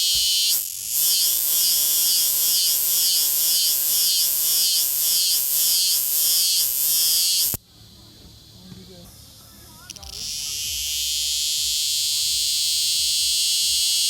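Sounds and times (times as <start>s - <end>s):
cicada buzzing: 0.0s - 7.6s, 9.8s - 14.0s.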